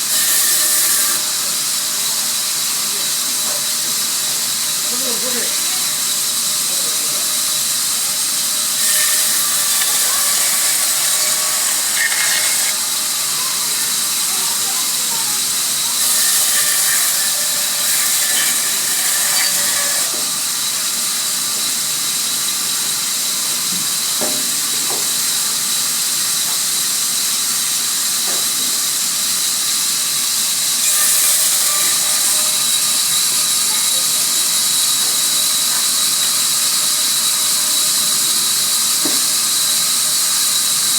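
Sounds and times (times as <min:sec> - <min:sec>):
saw cutting wood: 0:00.0 - 0:40.9.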